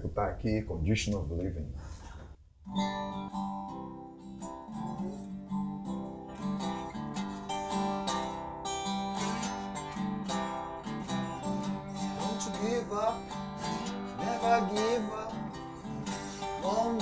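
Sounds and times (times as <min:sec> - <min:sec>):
acoustic guitar blues: 0:02.7 - 0:17.0.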